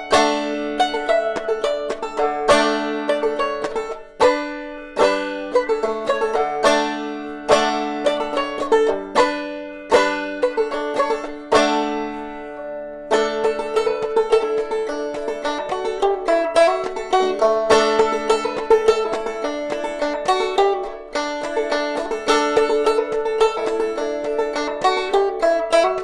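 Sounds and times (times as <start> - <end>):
banjo playing: 0.0 - 26.0.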